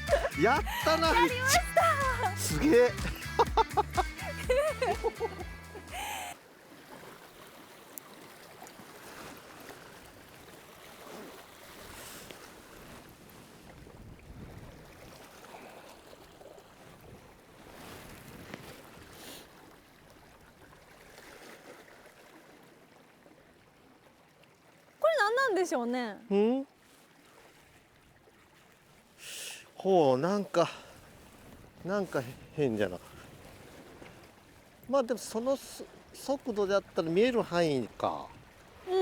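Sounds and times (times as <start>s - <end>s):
water washing against hull: 0.0s - 24.0s, 30.3s - 39.0s.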